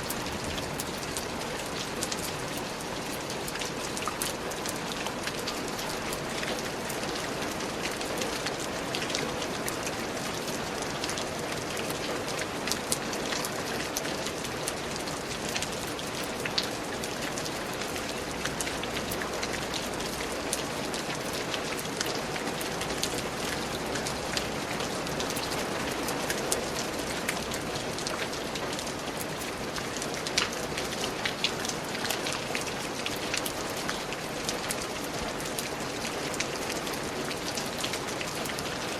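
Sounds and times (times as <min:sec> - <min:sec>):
raindrops pattering on leaves: 0:00.0 - 0:38.9
steady rain hiss: 0:00.0 - 0:38.9.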